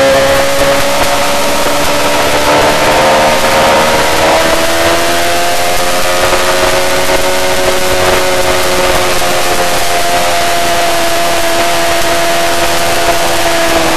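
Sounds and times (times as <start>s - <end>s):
motorcycle engine running hard: 0.0s - 13.9s.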